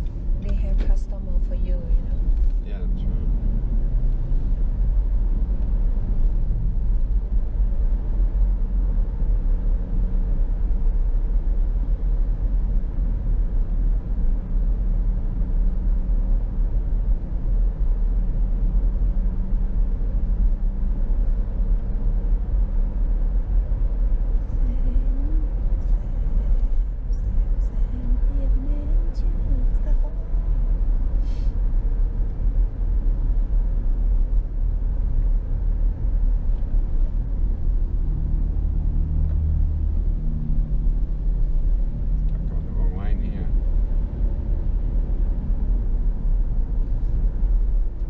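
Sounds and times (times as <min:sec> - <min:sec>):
car road rumble from inside: 0:00.0 - 0:48.0
faint engine hum: 0:00.0 - 0:48.0.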